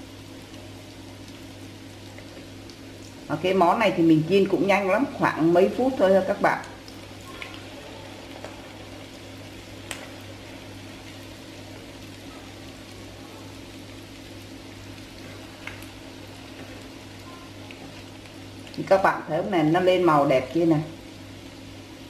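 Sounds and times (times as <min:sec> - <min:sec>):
low steady hum: 0:00.0 - 0:22.0
oil sizzling in a pan: 0:00.0 - 0:22.0.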